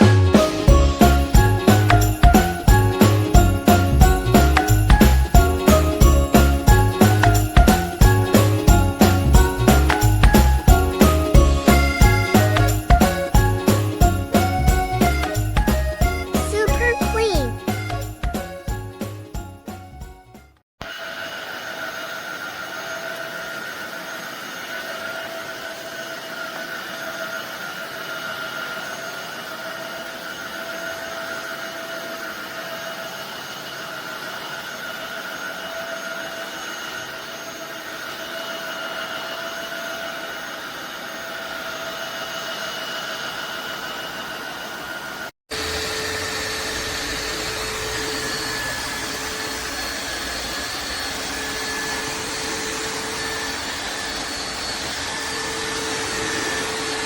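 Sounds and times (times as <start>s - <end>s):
floor cleaner motor whirring: 0.0s - 16.6s, 20.8s - 57.0s.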